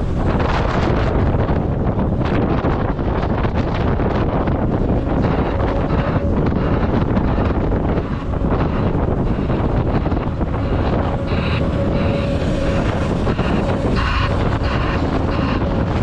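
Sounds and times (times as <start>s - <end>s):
heavy diesel engines rumbling: 0.0s - 16.0s
wind buffeting microphone: 0.0s - 16.0s.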